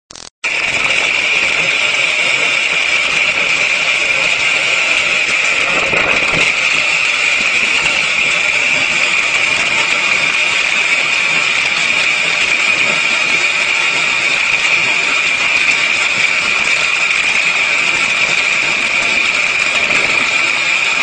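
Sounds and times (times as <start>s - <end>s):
corn-shelling machine whirring: 0.1s - 21.0s.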